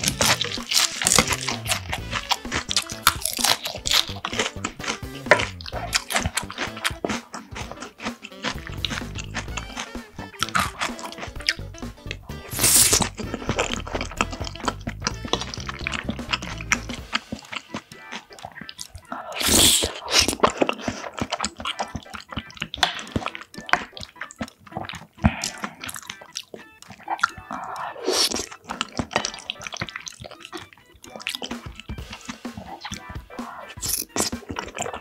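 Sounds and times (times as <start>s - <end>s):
wet chewing mouth clicks: 0.0s - 35.0s.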